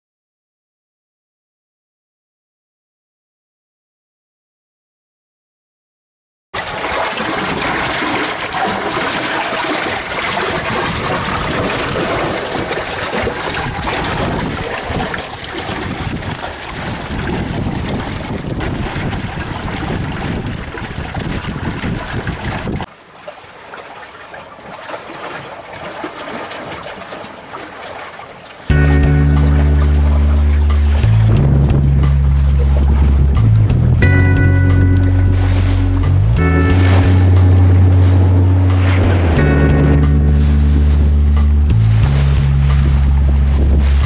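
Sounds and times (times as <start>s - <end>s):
water rushing along boat hull: 6.6s - 44.0s.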